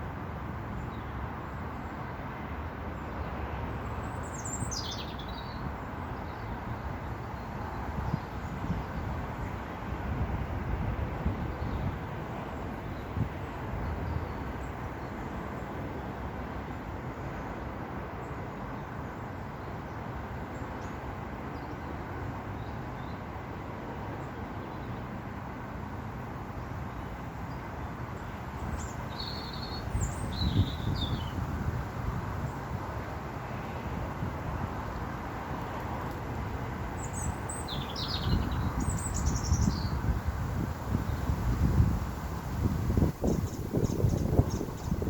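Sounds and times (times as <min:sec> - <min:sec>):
low outdoor background noise: 0:00.0 - 0:45.0.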